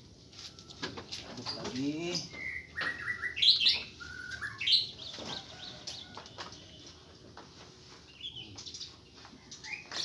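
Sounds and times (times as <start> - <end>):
small birds chirping: 1.1 - 10.0.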